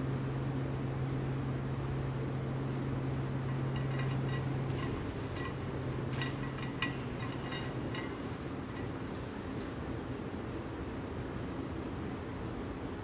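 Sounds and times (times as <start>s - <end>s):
low ventilation hum: 0.0s - 13.0s.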